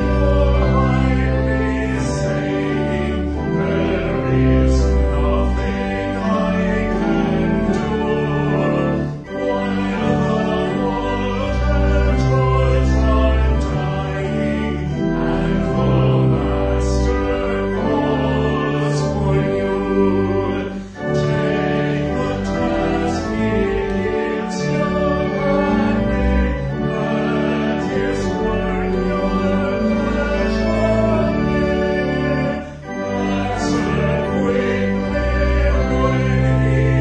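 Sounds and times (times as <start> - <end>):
organ chords: 0.0 - 37.0
voices singing a hymn: 0.0 - 37.0.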